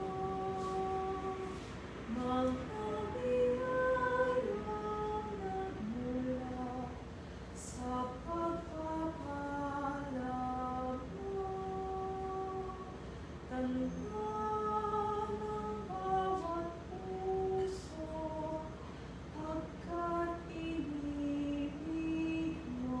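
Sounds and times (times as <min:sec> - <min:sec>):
woman singing a hymn: 0:00.0 - 0:23.0.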